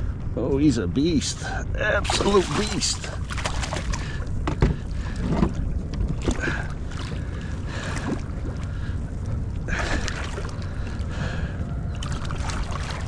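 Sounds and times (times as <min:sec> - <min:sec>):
wind buffeting microphone: 0:00.0 - 0:13.0
water sloshing around boat: 0:01.3 - 0:13.0.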